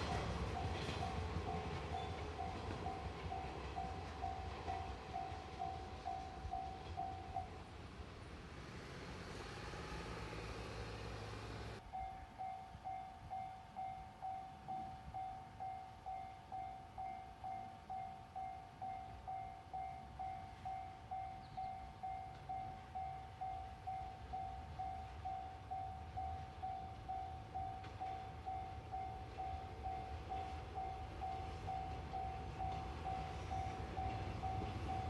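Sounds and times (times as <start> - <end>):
level crossing warning bell: 0.0 - 7.7, 11.8 - 35.0
electric train rumbling past: 0.0 - 35.0.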